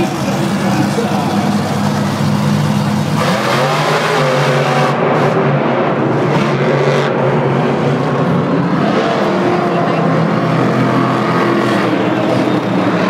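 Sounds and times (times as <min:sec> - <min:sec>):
monster truck engines revving: 0:00.0 - 0:13.0.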